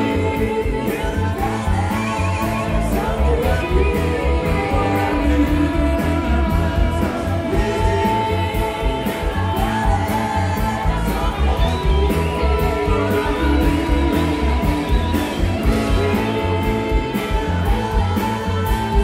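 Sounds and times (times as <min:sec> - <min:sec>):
bass guitar: 0:00.0 - 0:19.0
electric guitars: 0:00.0 - 0:19.0
person singing: 0:00.0 - 0:19.0.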